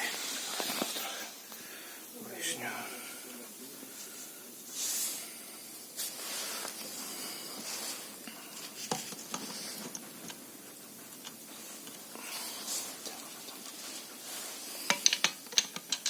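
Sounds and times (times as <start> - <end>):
hissing spray bursts: 0.0 - 13.0
steady hiss: 0.0 - 16.0.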